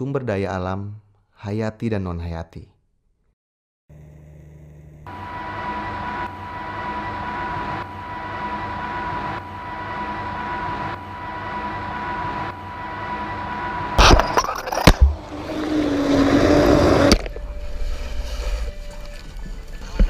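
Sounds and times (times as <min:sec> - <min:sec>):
boat engine running: 0:03.9 - 0:20.0.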